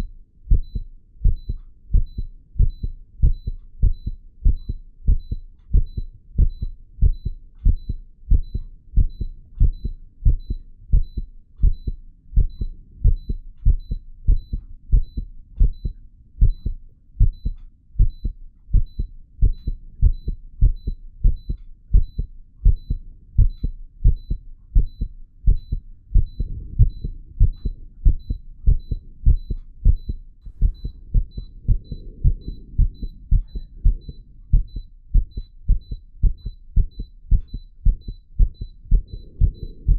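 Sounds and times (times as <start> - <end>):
heartbeat double thumps: 0.0 - 39.9
ecg monitor beeping: 1.4 - 39.9.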